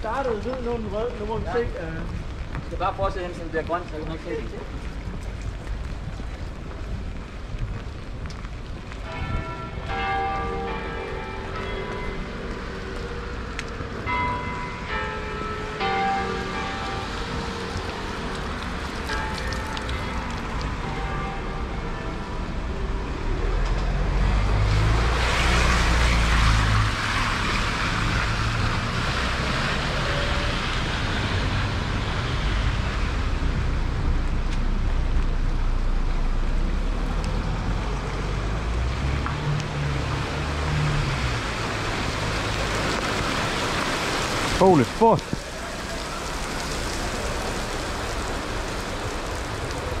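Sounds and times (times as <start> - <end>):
rain hissing on street: 0.0 - 50.0.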